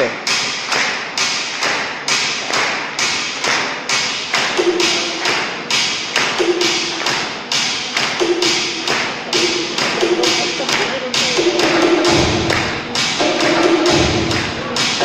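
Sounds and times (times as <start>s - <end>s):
sharp echoing hits: 0.0s - 15.0s.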